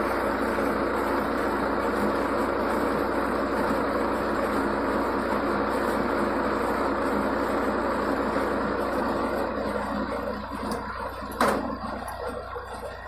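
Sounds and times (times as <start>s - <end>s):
tractor and baler running: 0.0s - 13.0s.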